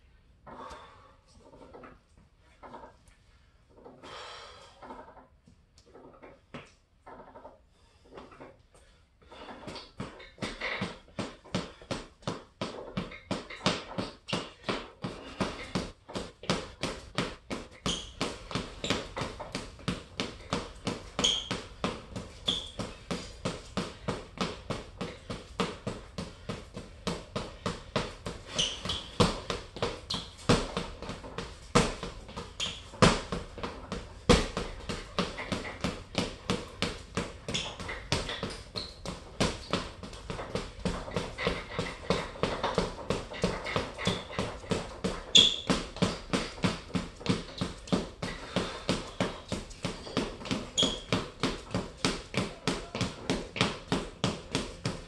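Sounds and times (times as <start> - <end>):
gloves punching heavy bag: 9.7 - 55.0.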